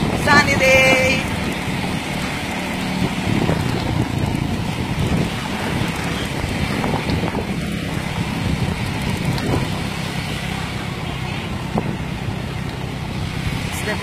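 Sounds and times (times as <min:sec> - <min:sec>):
road noise: 0:00.0 - 0:14.0
scooter engine running: 0:00.0 - 0:14.0.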